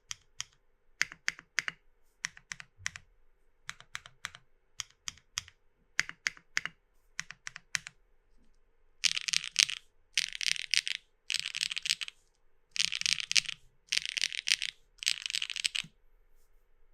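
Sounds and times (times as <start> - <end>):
mechanical keyboard typing: 0.0 - 3.0, 3.7 - 8.0, 9.0 - 15.9.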